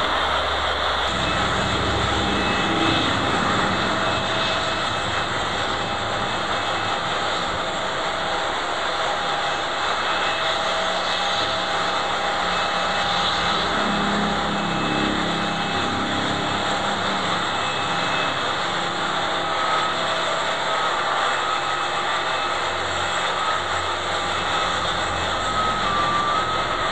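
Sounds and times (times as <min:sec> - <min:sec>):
jet engines running: 0:00.0 - 0:26.9.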